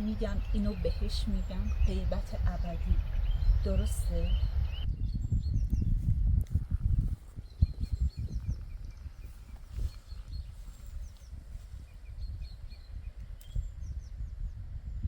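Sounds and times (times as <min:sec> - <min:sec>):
songbirds chirping: 0:00.0 - 0:06.1, 0:06.8 - 0:15.0
low rumble: 0:00.0 - 0:15.0.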